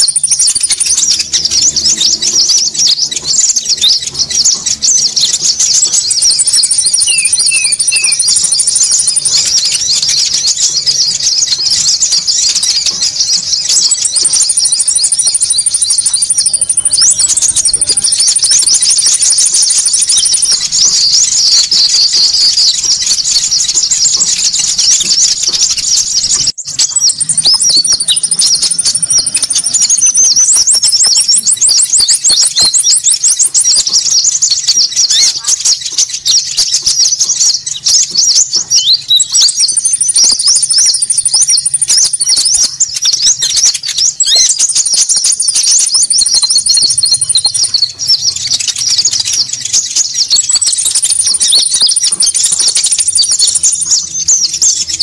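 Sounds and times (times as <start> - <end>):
birds chattering calls: 0.0 - 55.0
high rapid bird trills: 0.0 - 55.0.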